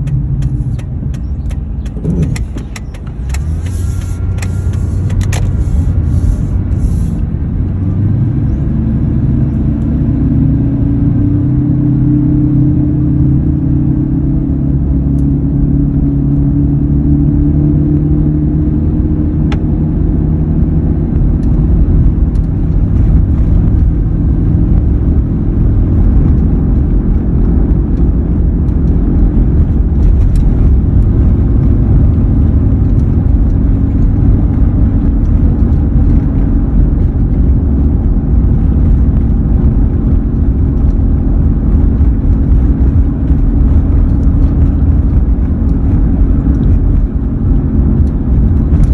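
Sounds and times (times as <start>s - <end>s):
engine and road rumble: 0.0s - 48.9s.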